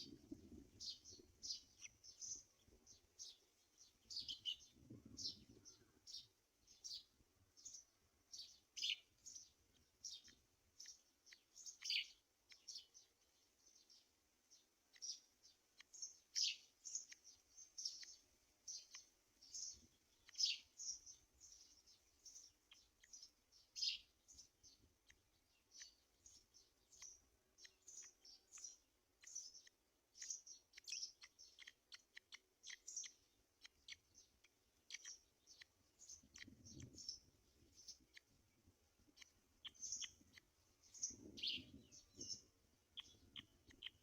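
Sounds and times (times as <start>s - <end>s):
high-pitched bird chirps: 4.1s - 13.1s, 14.9s - 38.4s, 39.1s - 44.0s.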